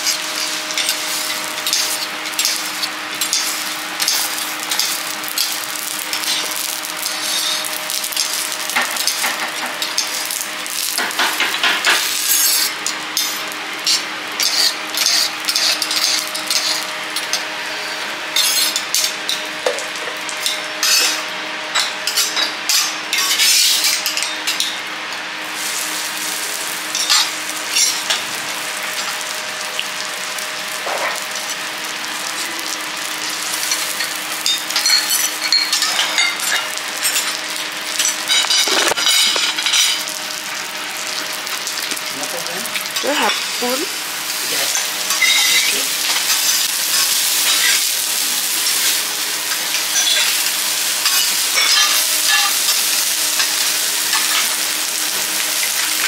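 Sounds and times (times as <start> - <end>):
butter and oil sizzling on griddle: 0.0 - 56.0.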